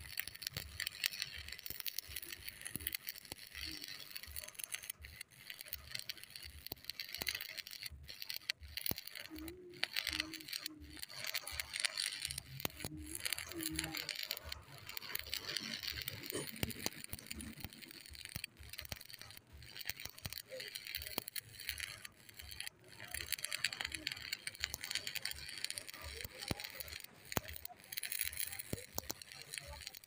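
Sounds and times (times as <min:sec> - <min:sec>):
welding arc crackling: 0:00.0 - 0:30.0.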